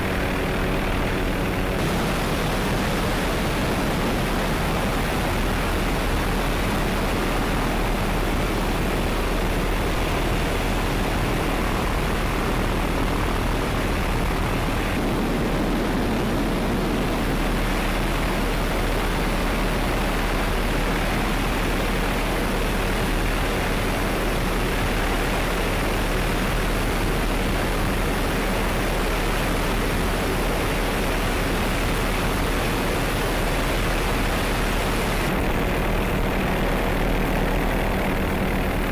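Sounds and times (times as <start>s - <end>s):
constant low hum: 0.0s - 38.9s
helicopter turbine engines and rotors: 0.0s - 38.9s.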